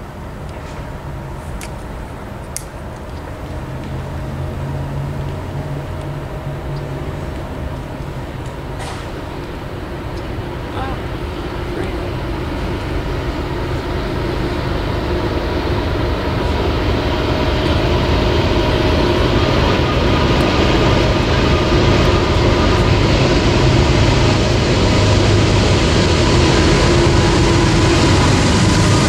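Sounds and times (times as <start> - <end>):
diesel locomotive rumbling: 0.0 - 29.0.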